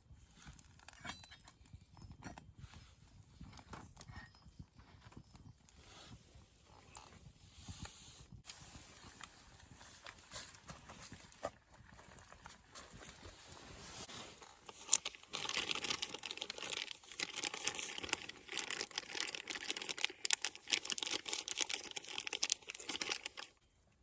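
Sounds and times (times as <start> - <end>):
crinkling and crumpling: 0.0 - 7.8, 8.4 - 24.0.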